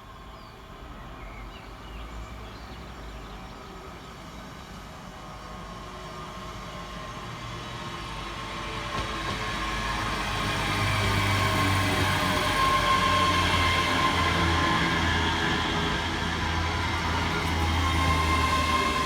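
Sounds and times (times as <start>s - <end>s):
electric train approaching: 0.1s - 19.0s.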